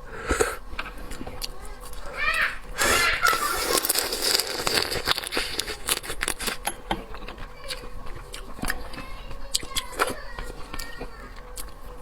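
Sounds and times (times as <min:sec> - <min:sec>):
crunchy chewing: 0:00.2 - 0:12.0.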